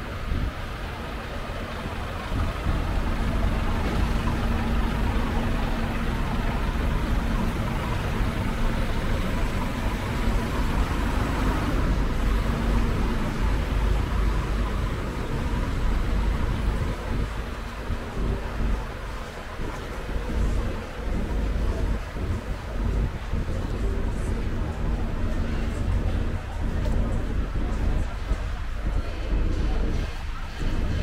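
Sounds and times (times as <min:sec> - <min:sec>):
street traffic rumble: 0:00.0 - 0:31.0
truck engine humming: 0:00.0 - 0:31.0.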